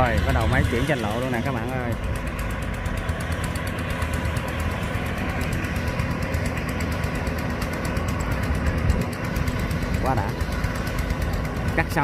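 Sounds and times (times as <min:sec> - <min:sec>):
combine harvester engine clattering: 0:00.0 - 0:12.0.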